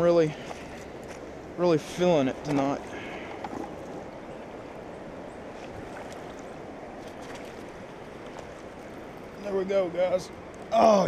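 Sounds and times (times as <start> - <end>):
river current rushing: 0.0 - 11.0.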